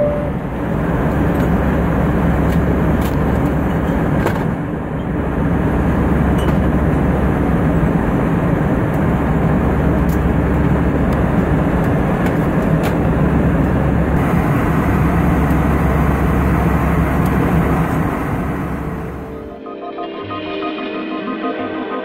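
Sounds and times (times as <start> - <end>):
airliner cabin engine rumble: 0.0 - 19.5.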